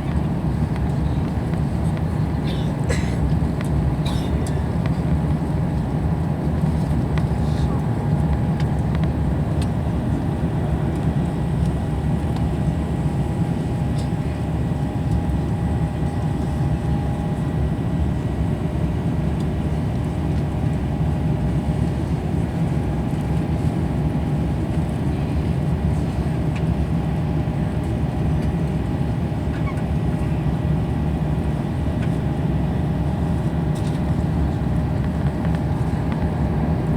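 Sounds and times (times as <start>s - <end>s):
low drone of engines and airflow: 0.0s - 36.9s.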